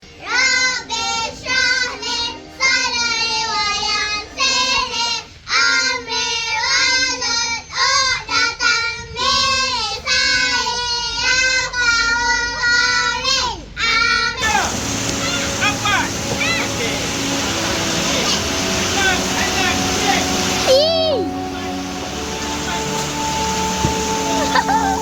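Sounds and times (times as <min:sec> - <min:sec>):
children singing: 0:00.1 - 0:08.6, 0:09.8 - 0:25.0.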